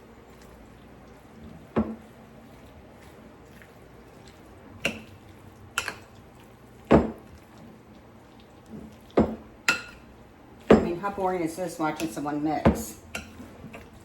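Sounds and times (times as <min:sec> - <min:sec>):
wet mixing sounds: 0:00.0 - 0:14.0.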